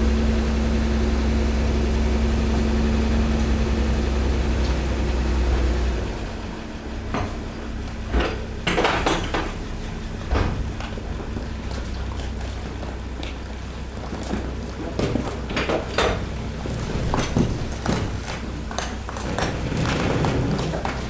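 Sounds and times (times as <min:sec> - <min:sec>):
hydraulic compactor humming: 0:00.0 - 0:21.0.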